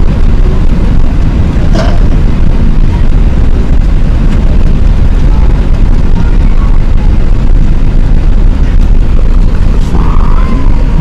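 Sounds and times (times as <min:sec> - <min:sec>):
jet cabin engine rumble: 0:00.0 - 0:11.0.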